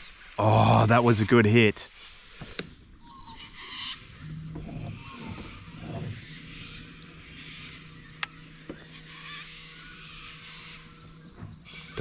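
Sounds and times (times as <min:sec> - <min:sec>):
birds calling: 0:00.0 - 0:12.0
insects calling: 0:00.0 - 0:12.0
steady low hum: 0:00.0 - 0:12.0.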